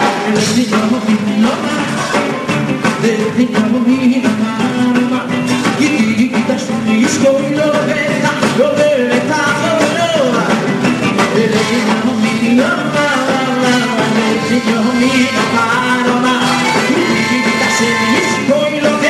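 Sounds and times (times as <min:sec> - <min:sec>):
lead voice singing: 0:00.0 - 0:19.0
live band playing: 0:00.0 - 0:19.0.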